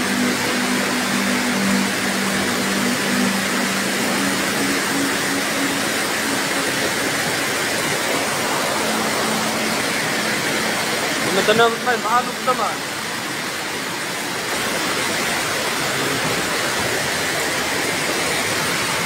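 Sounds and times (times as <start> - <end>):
low steady hum: 0.0 - 18.9
flood water rushing: 0.0 - 19.0.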